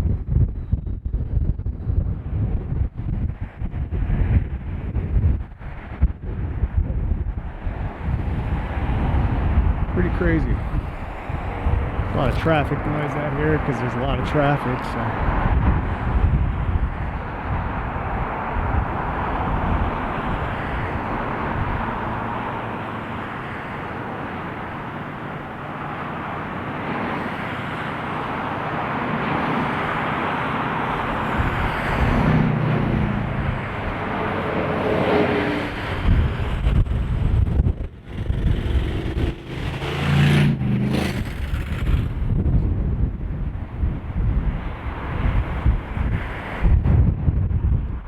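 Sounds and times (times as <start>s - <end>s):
vehicle engine hum: 0.0s - 48.0s
wind buffeting microphone: 0.0s - 48.0s
road traffic passing: 0.2s - 48.0s.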